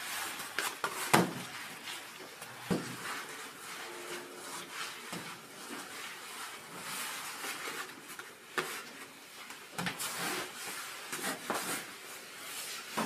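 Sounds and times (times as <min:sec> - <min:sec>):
hands rolling dough on table: 0:00.0 - 0:13.0.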